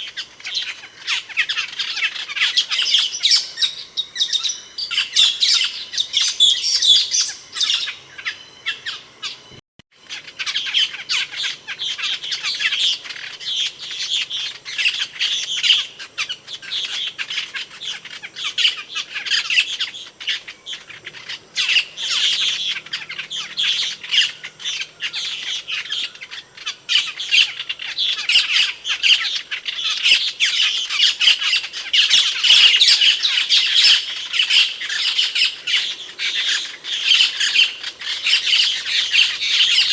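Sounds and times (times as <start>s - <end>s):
starling squeaky calls: 0.0s - 39.9s.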